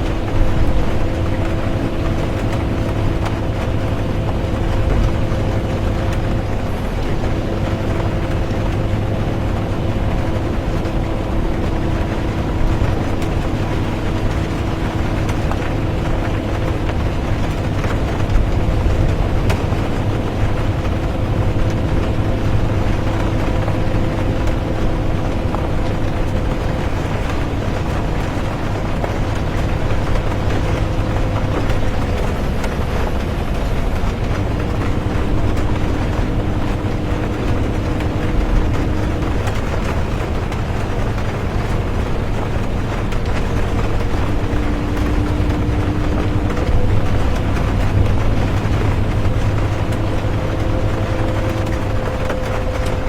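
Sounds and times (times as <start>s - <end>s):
bus engine and road rumble: 0.0s - 53.0s
droning whine: 0.0s - 53.0s
rain hiss: 0.0s - 53.0s.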